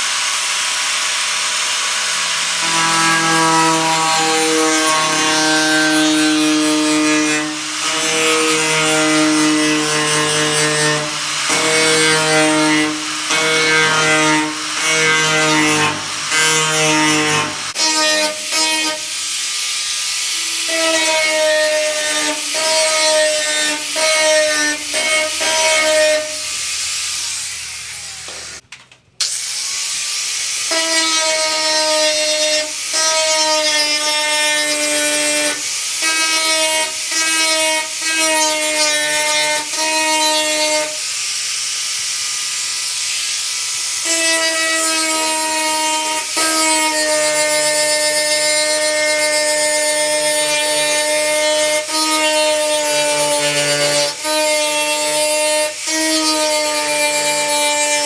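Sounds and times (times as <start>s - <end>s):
power grinder grinding steel: 0.0s - 28.6s, 29.2s - 58.0s.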